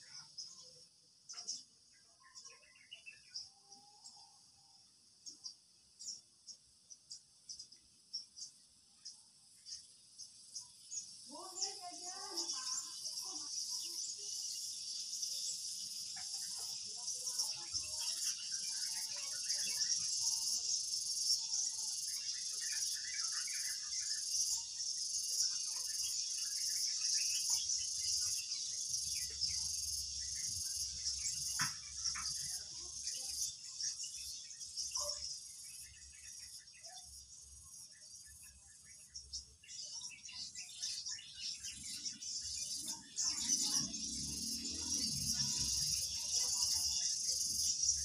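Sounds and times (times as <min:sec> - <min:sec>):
crickets chirping: 0:06.0 - 0:48.0.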